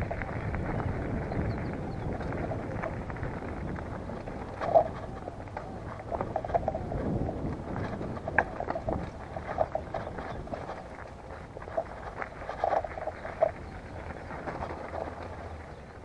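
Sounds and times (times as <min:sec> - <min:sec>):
bike knocking and rattling: 0:00.0 - 0:16.0
bike tyres crunching on stones: 0:00.0 - 0:16.0
wind noise: 0:00.0 - 0:16.0.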